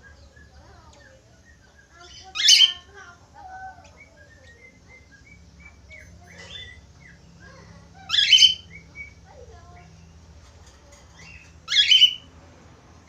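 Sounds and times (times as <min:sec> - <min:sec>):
budgerigars chirping: 0:00.0 - 0:10.1, 0:11.2 - 0:12.3.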